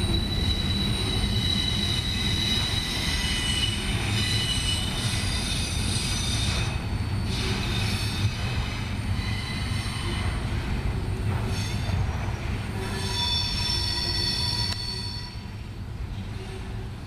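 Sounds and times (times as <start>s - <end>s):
train rumble: 0.0s - 17.0s
train wheels squealing: 0.0s - 17.0s.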